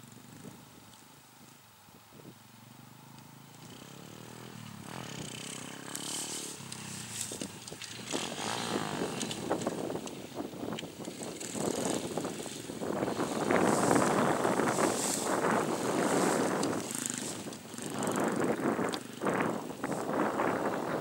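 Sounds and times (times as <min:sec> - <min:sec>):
motorbike engine revving: 0:03.0 - 0:21.0.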